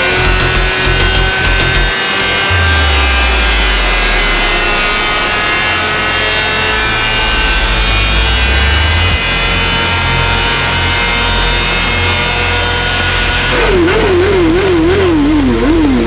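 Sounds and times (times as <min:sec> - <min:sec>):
motorcycle engine buzzing: 0:00.0 - 0:16.0.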